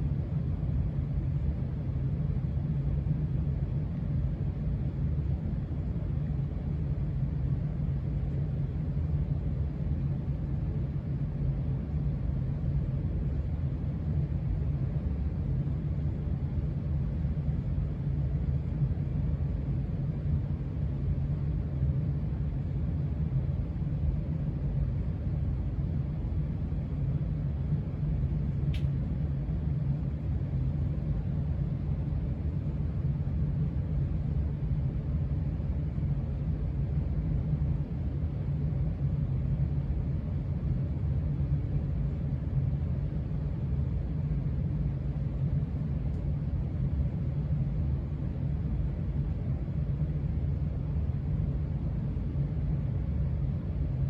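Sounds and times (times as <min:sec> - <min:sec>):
ceiling fan low rumble: 0:00.0 - 0:54.0.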